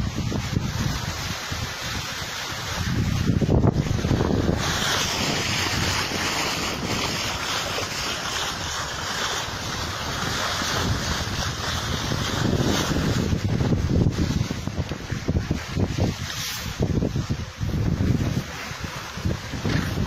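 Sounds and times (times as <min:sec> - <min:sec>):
bow wave and spray hiss: 0:00.0 - 0:20.0
water rushing along hull: 0:00.0 - 0:20.0
wind buffeting microphone: 0:00.0 - 0:20.0.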